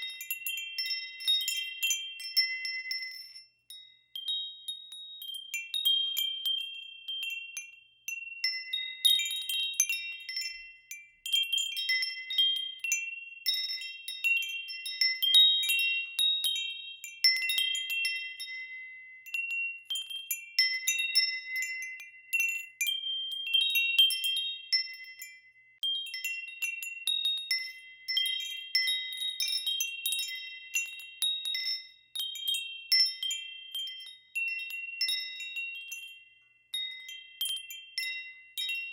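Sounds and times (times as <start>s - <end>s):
wind chimes ringing: 0.0s - 38.9s.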